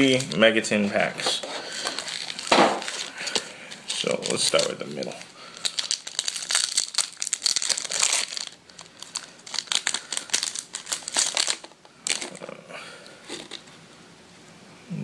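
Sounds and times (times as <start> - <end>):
foil pack crinkling being torn: 0.0 - 12.5.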